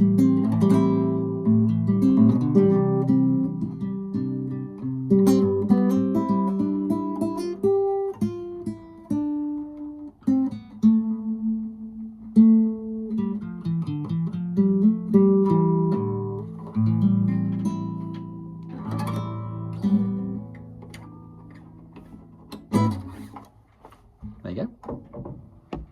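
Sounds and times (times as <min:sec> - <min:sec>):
acoustic guitar playing: 0:00.0 - 0:25.7.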